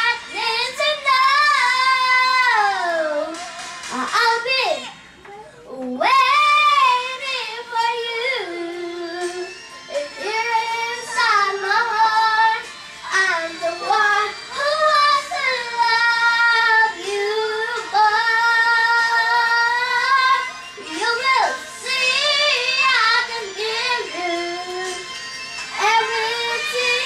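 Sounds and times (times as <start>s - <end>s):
girl singing into microphone: 0.0s - 25.1s, 25.7s - 27.0s.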